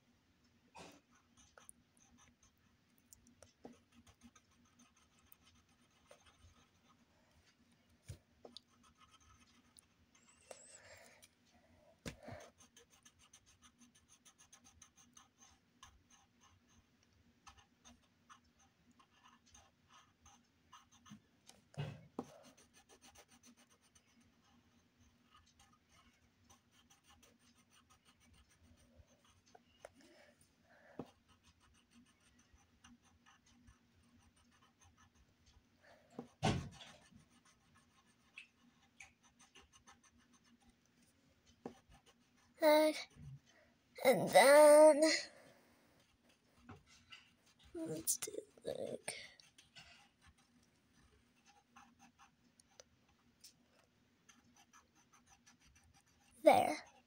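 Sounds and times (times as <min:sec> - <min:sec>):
pencil scratching on paper: 0:00.8 - 0:11.3, 0:12.0 - 0:57.0.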